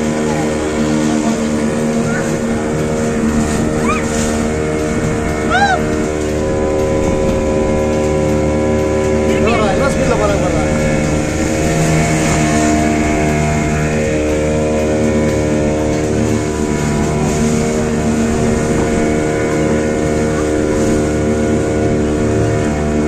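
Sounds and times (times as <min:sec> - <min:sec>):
motorboat engine droning: 0:00.0 - 0:23.0.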